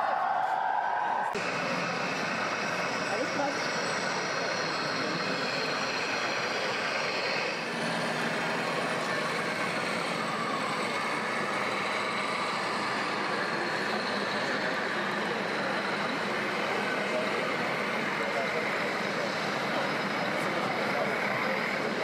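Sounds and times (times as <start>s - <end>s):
busy trade fair hall din: 0.0s - 22.0s.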